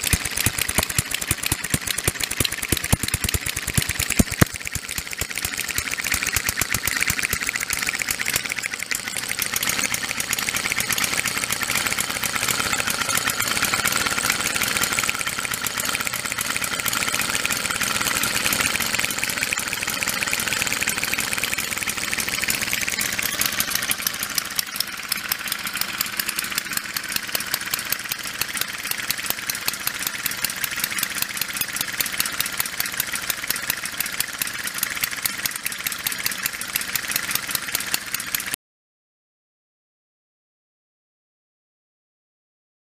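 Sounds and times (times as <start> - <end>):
model engine running: 0.0 - 38.6.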